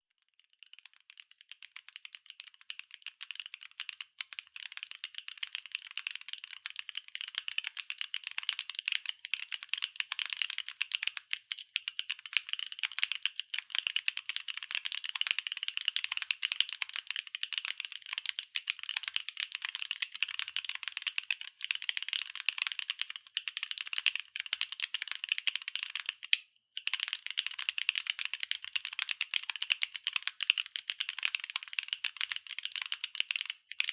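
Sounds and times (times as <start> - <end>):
mechanical keyboard typing: 0.6 - 33.9.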